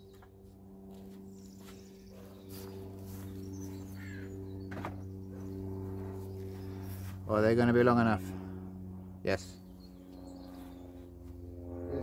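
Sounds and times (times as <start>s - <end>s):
small birds chirping: 0.0s - 8.1s, 9.3s - 12.0s
steady low hum: 0.0s - 12.0s.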